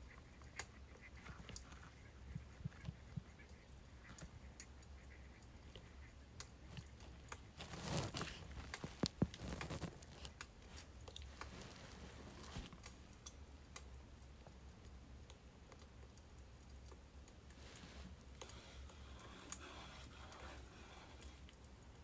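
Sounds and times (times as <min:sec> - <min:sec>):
low steady hum: 0:00.0 - 0:22.0
soft rustling: 0:00.3 - 0:13.3, 0:16.6 - 0:22.0
firewood crackling: 0:00.4 - 0:22.0.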